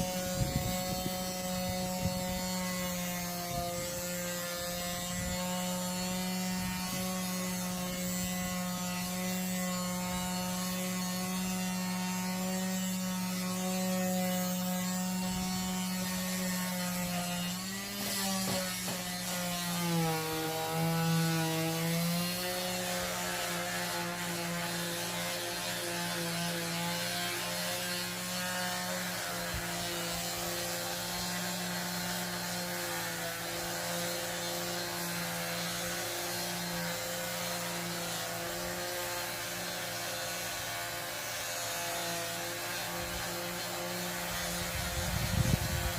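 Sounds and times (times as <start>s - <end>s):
electric sander on wood: 0.0s - 45.9s.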